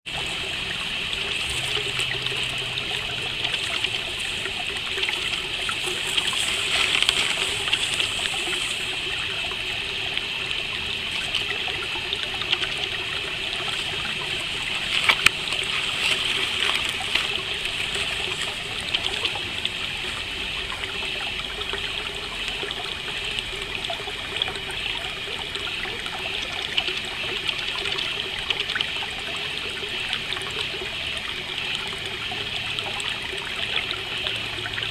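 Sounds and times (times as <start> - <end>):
stream water trickling: 0.0 - 34.9
crickets chirring: 0.2 - 34.9.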